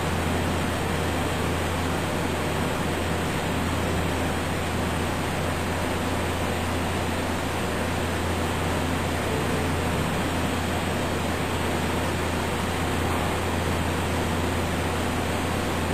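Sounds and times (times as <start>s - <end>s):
milling machine hum and hiss: 0.0s - 15.9s.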